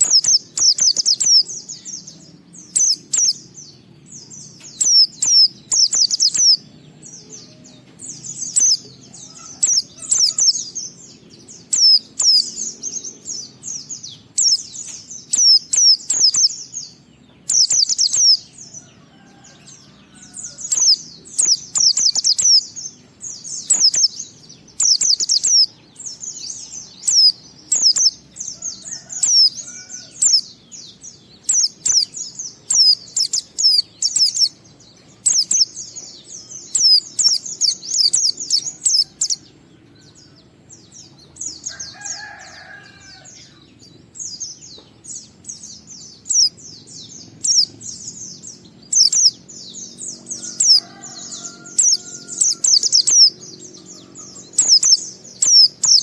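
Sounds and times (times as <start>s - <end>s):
bird chattering song: 0.0s - 56.0s.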